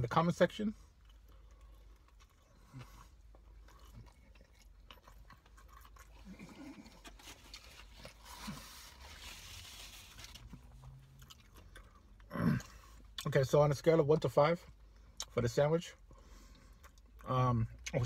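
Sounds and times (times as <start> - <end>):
person chewing quietly: 0.7 - 13.4, 16.0 - 18.0.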